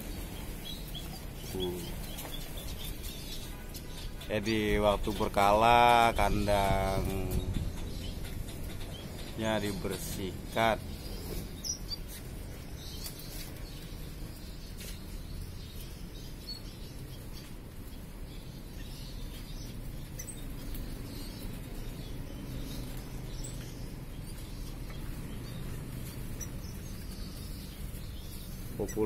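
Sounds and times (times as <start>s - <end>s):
finches chirping: 0.0s - 29.0s.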